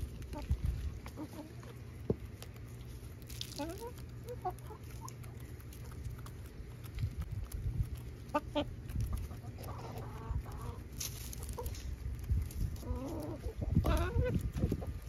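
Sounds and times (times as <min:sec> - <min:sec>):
hens clucking: 0:00.0 - 0:15.0
hens pecking at food: 0:00.0 - 0:15.0
steady low rumble: 0:00.0 - 0:15.0.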